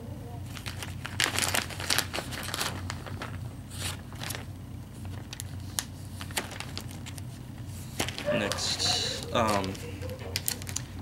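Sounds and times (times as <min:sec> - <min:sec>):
steady low hum: 0:00.0 - 0:11.0
plastic bag crinkling: 0:00.5 - 0:11.0.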